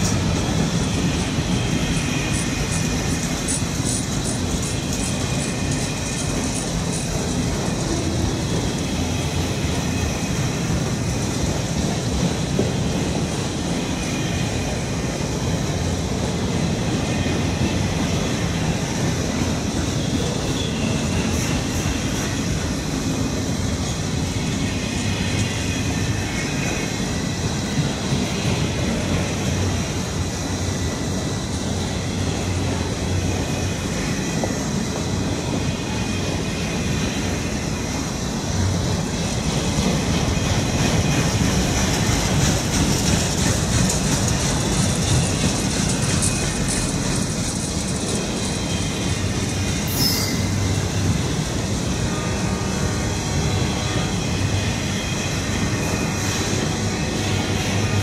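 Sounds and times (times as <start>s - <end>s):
faint high wheel squeal: 0.0s - 58.0s
train wheels rumbling and clattering: 0.0s - 58.0s.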